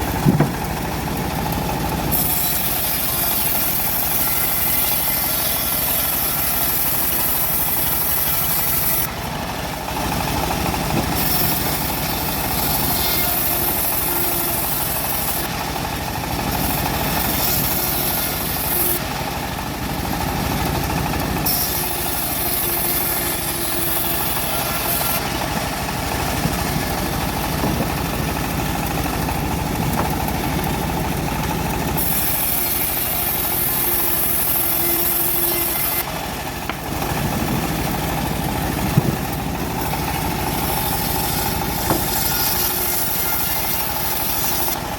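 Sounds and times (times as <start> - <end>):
bandsaw blade sawing log: 0.0 - 44.9
engine running: 0.0 - 44.9.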